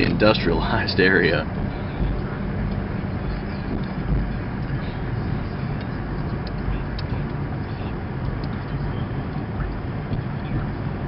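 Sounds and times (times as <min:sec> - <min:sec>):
car engine: 0:00.0 - 0:11.0
road noise: 0:00.0 - 0:11.0.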